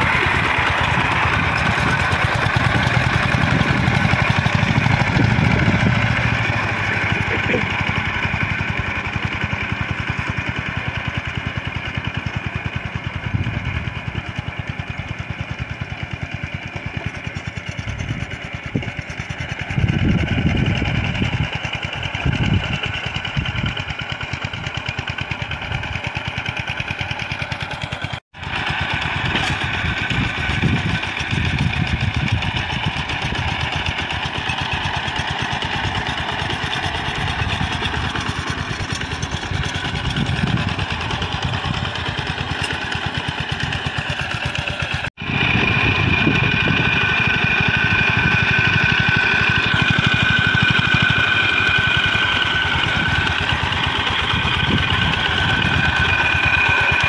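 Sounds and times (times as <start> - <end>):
walking tractor engine chugging: 0.0 - 57.0.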